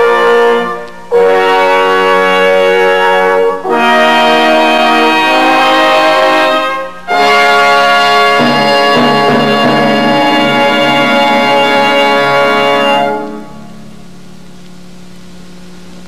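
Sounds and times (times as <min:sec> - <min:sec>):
instrumental music of long held chords: 0:00.0 - 0:15.2.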